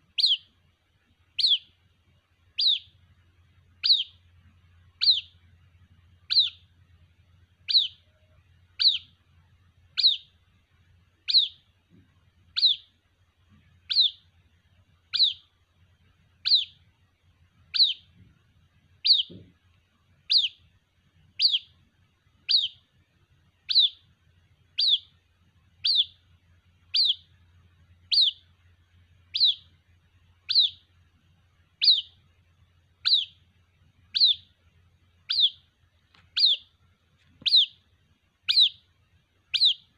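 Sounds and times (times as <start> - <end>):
bird chick peeping: 0.0 - 0.7, 1.3 - 1.8, 2.5 - 10.5, 11.1 - 17.0, 17.6 - 36.8, 37.4 - 39.9.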